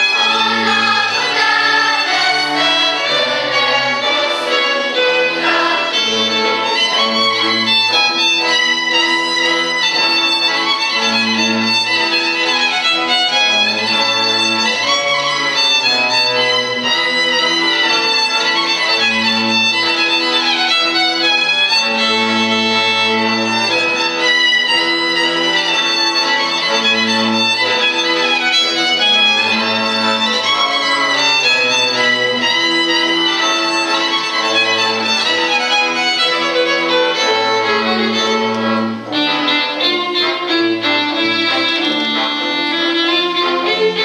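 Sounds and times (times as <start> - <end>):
violin playing folk tune: 0.0 - 44.0.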